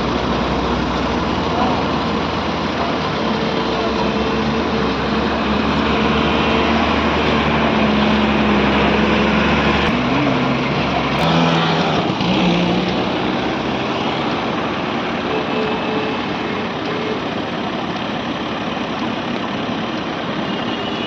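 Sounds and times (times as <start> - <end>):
paving machinery engines running: 0.0 - 21.0.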